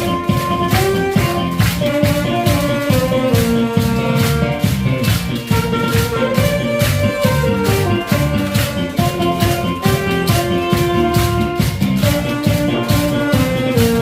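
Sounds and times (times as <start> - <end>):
alto saxophone melody: 0.0 - 14.0
backing track with steady beat: 0.0 - 14.0
bright rattling percussion: 0.0 - 14.0.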